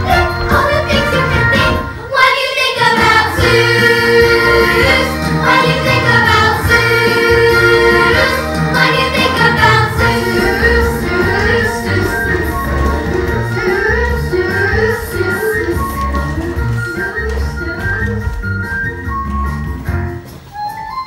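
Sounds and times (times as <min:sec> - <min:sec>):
chorus singing show tune: 0:00.0 - 0:18.4
instrumental accompaniment: 0:00.0 - 0:21.0.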